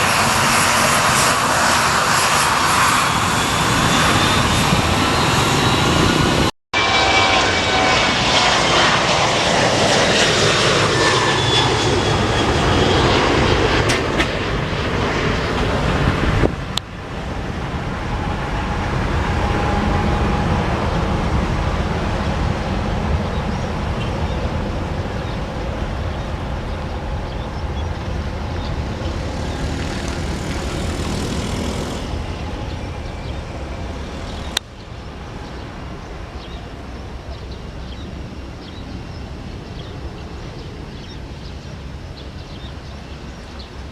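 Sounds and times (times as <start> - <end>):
airliner engines taking off: 0.0 - 43.9.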